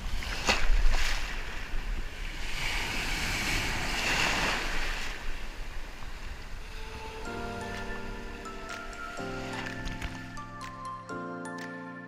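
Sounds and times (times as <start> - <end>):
surf breaking in shallow water: 0.0 - 10.4.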